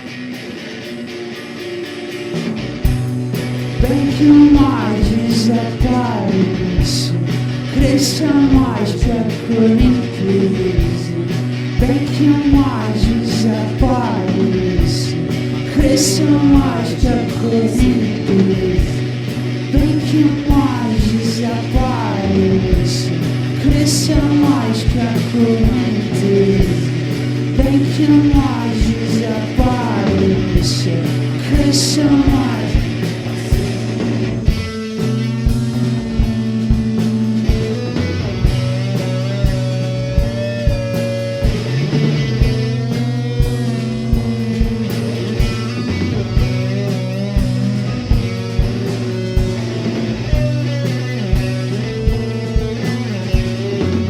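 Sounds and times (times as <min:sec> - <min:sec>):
guitars: 0:00.0 - 0:54.0
drum beat: 0:02.4 - 0:54.0
bass note: 0:02.5 - 0:54.0
person singing: 0:03.7 - 0:54.0.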